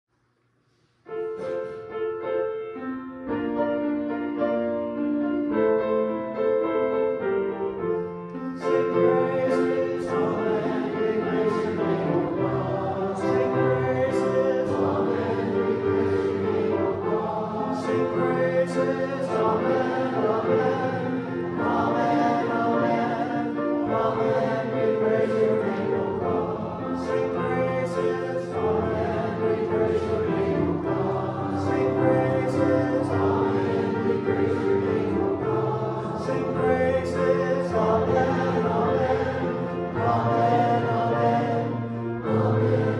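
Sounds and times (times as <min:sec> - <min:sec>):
piano accompaniment: 0:01.0 - 0:42.9
congregation singing a hymn: 0:01.2 - 0:02.2, 0:05.4 - 0:42.9.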